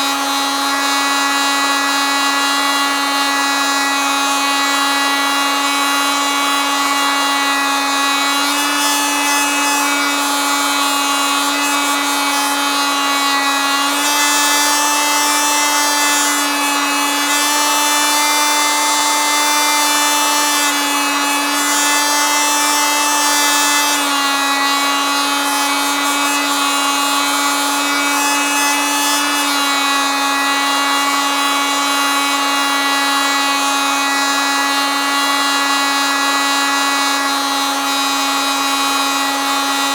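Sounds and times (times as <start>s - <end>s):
oscillating multitool buzzing: 0.0s - 39.9s.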